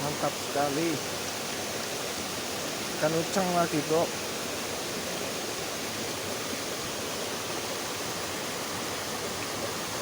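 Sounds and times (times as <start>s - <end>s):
river flowing: 0.0s - 10.0s.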